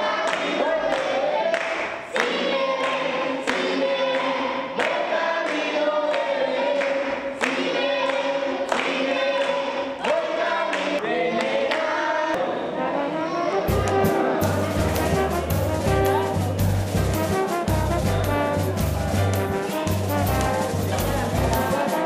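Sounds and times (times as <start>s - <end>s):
group singing: 0.0s - 16.4s, 20.5s - 22.0s
hand-clapping in time: 0.2s - 11.9s, 13.7s - 22.0s.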